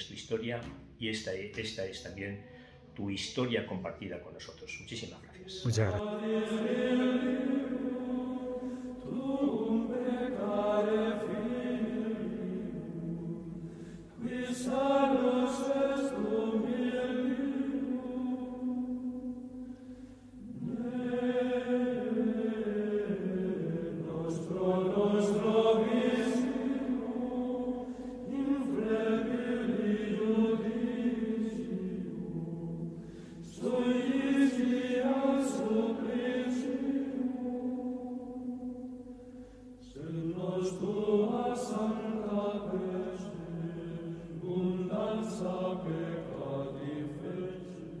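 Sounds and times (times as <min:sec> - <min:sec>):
voices singing chant: 0:05.7 - 0:48.0.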